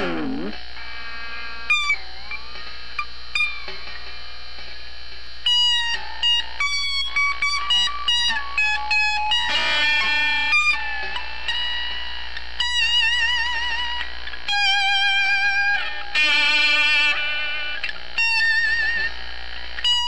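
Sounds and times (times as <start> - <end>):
electric guitar notes: 0.0 - 4.0, 5.4 - 20.0.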